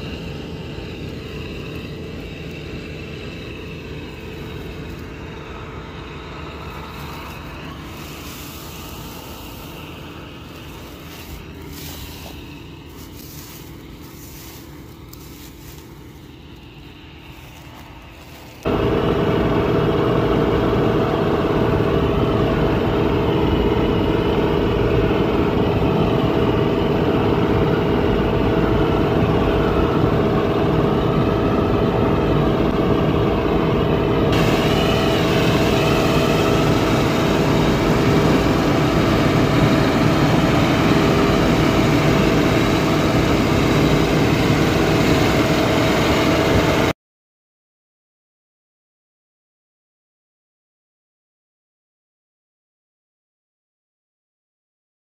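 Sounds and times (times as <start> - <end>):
combine harvester engine drone: 0.0 - 47.0
constant machinery whine: 0.0 - 47.0.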